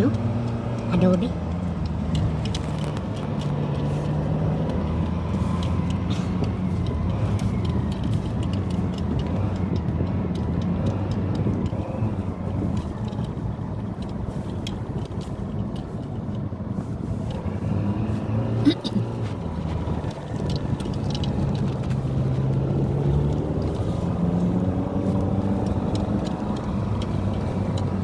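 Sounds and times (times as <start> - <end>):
car engine hum: 0.0 - 28.0
road noise hiss: 0.1 - 28.0.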